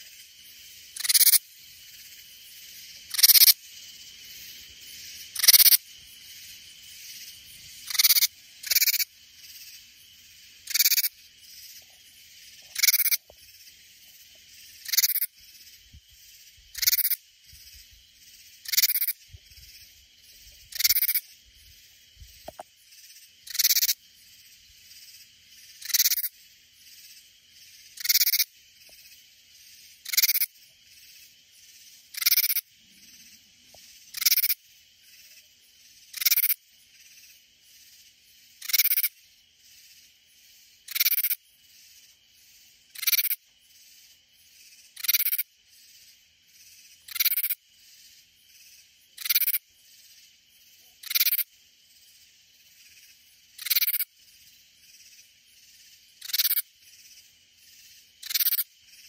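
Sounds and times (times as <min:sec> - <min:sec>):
faint high insect hiss: 0:00.0 - 0:59.0
katydid calling: 0:00.0 - 0:59.0.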